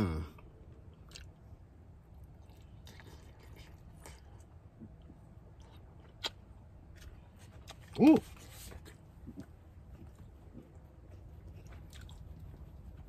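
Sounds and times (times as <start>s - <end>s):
man chewing food: 0.3s - 13.0s.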